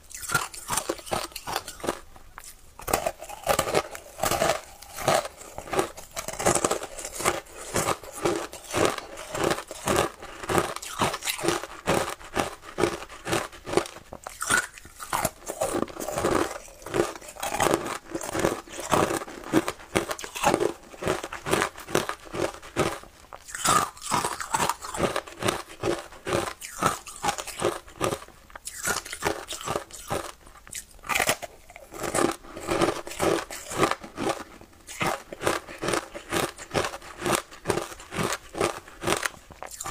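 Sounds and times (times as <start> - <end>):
crisp crunching of ice being chewed: 0.0 - 39.9.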